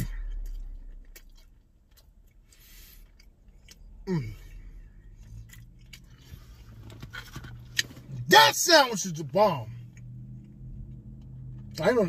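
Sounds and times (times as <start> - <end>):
man chewing food: 0.0 - 8.0, 9.8 - 11.8.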